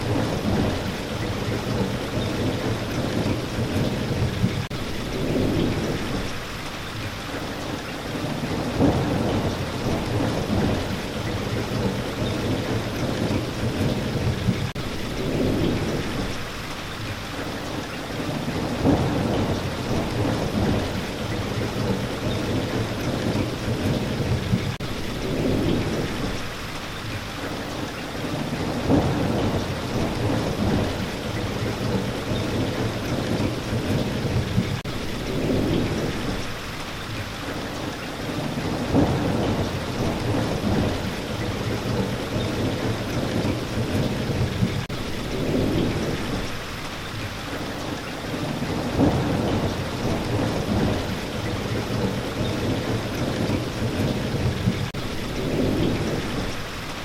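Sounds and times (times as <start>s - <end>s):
steady rain: 0.0s - 57.0s
thunder rumbling: 0.0s - 57.0s.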